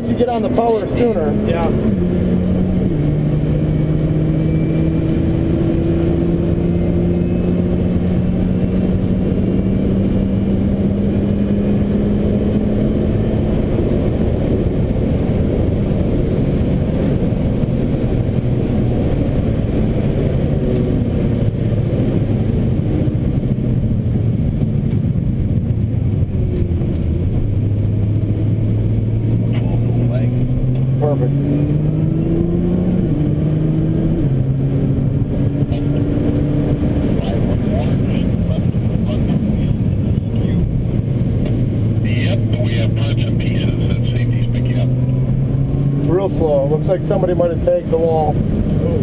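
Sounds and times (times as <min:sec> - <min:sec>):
car engine under hard driving: 0:00.0 - 0:49.0
road noise on wet track: 0:00.0 - 0:49.0.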